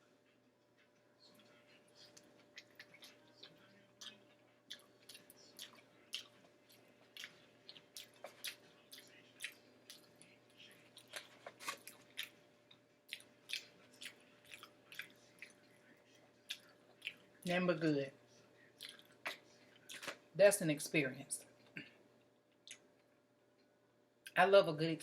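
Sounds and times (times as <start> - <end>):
person chewing food: 0.8 - 17.5, 18.6 - 20.3, 21.6 - 23.8.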